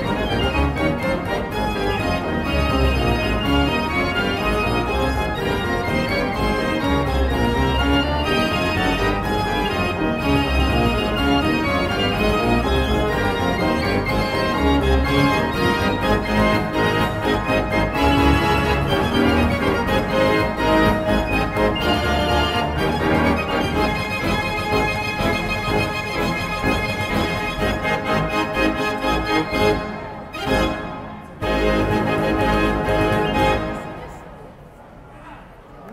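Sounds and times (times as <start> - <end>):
fair organ playing a tune: 0.0 - 34.0.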